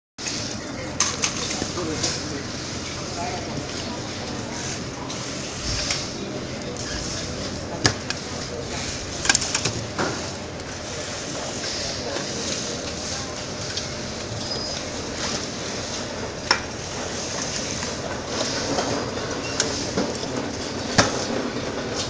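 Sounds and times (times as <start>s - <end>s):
workshop background noise: 0.2s - 22.0s.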